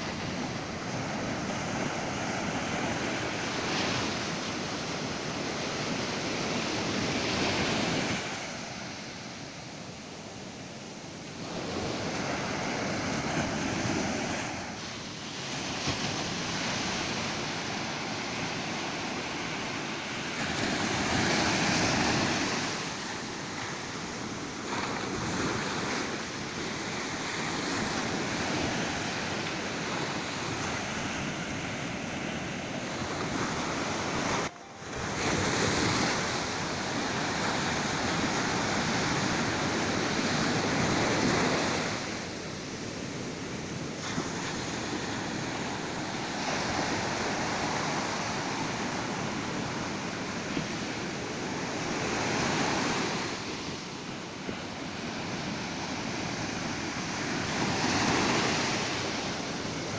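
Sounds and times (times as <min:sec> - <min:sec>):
waves breaking on a beach: 0:00.0 - 0:59.9
wind on microphone: 0:00.0 - 0:59.9.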